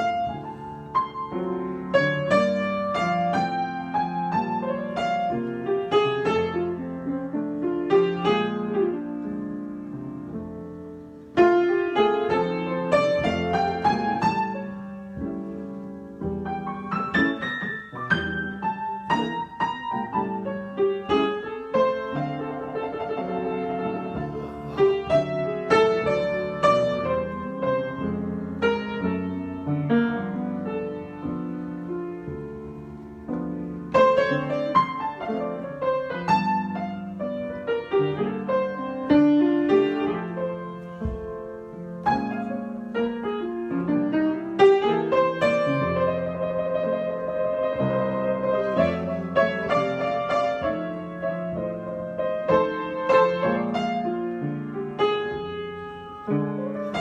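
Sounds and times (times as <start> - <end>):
solo piano improvisation: 0.0 - 57.0.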